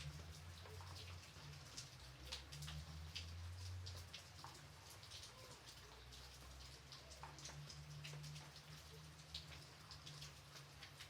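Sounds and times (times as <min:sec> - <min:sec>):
individual raindrops: 0:00.0 - 0:11.0
light rain falling: 0:00.0 - 0:11.0.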